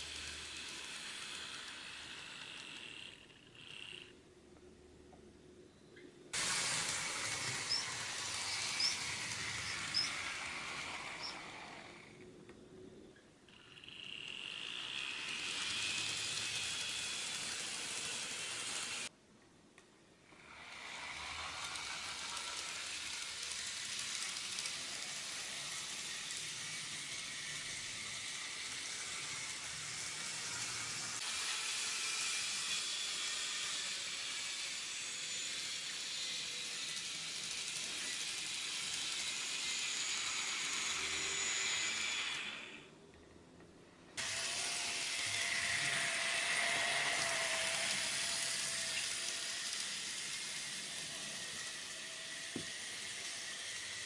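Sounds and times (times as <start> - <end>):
model trains whirring: 0.0 - 4.2, 6.3 - 19.1, 20.2 - 43.1, 44.1 - 54.0.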